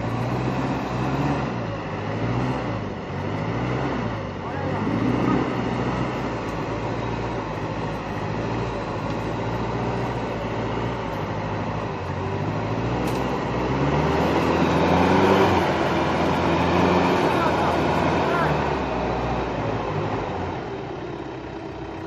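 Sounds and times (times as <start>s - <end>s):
pickup engine working under load: 0.0s - 22.0s.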